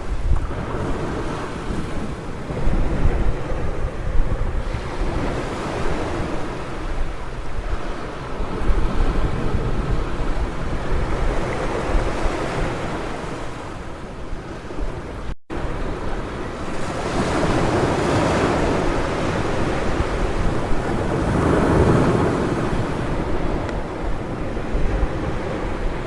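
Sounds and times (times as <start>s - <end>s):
ocean surf breaking on beach: 0.0s - 26.0s
wind rumbling on microphone: 0.0s - 26.0s.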